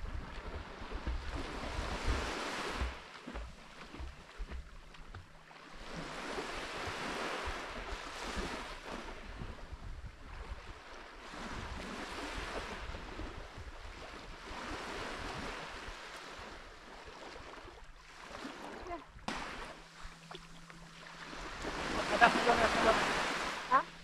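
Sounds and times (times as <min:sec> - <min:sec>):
waves washing on shore: 0:00.0 - 0:04.5, 0:05.6 - 0:09.7, 0:10.3 - 0:24.0
wind rumble on microphone: 0:00.0 - 0:05.2, 0:05.8 - 0:20.5.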